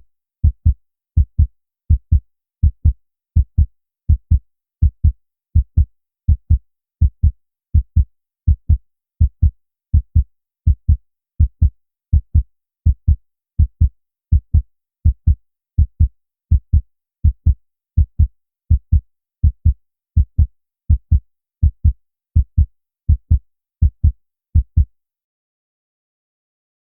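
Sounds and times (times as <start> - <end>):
heartbeat: 0.4 - 24.9.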